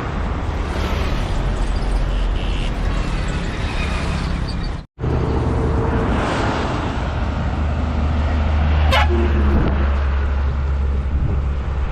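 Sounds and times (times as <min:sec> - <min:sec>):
road noise: 0:00.0 - 0:11.9.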